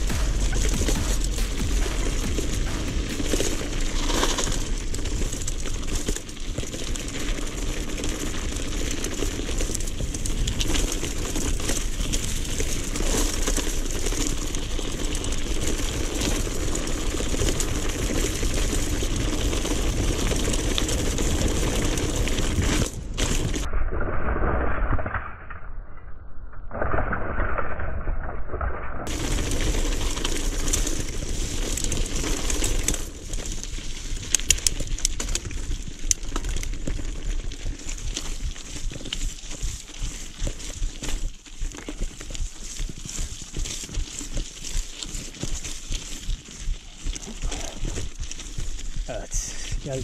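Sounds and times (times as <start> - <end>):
bike rattling and clicking: 0.0 - 23.7, 29.1 - 50.0
tyres crunching over gravel: 0.0 - 23.7, 29.1 - 50.0
wind rumble on microphone: 0.0 - 50.0.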